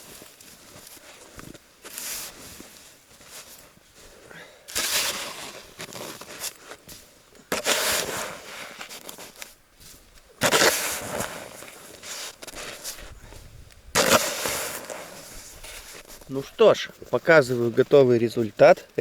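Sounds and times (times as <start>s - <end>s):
snow shovel scraping packed snow: 0.0s - 19.0s.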